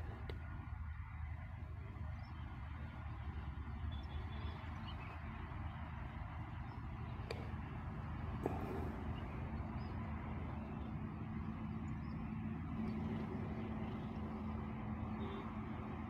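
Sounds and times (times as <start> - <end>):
faint steady hum: 0.0 - 16.0
low background rumble: 0.0 - 16.0.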